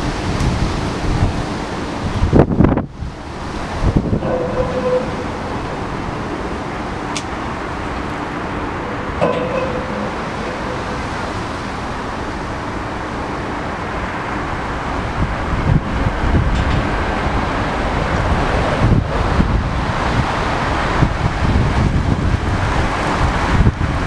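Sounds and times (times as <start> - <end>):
freight wagon wheels rumbling on rails: 0.0 - 24.0
wind buffeting microphone: 0.0 - 24.0.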